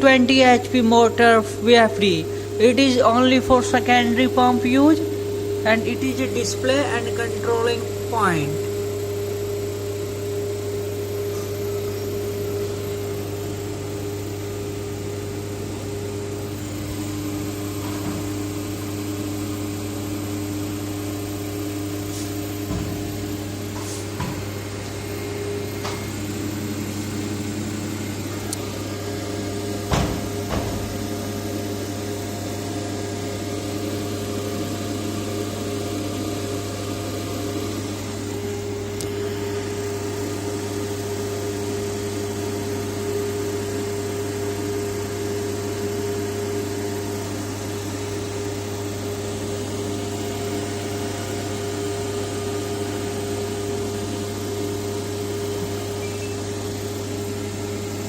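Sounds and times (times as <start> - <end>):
machinery deep hum: 0.0 - 58.0.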